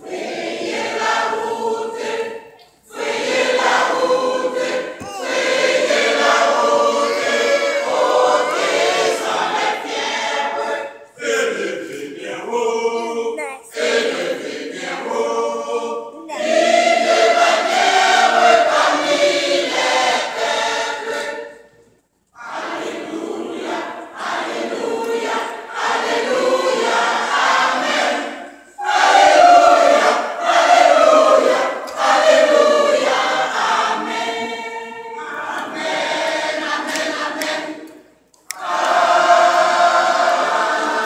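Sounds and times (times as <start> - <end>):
church choir singing: 0.0 - 41.0.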